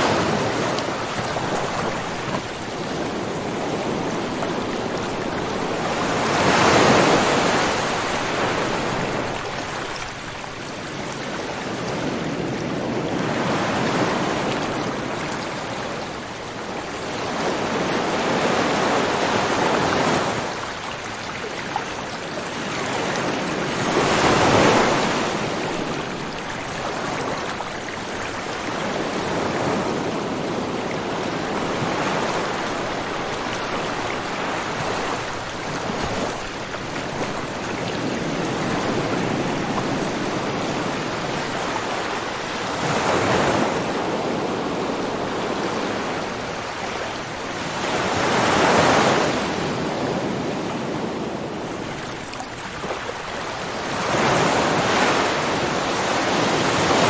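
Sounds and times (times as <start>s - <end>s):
ocean waves on shore: 0.0s - 57.0s.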